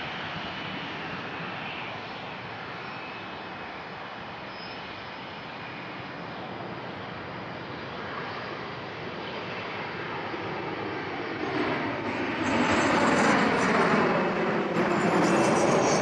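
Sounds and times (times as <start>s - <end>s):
jet airliner engine noise: 0.0s - 16.0s.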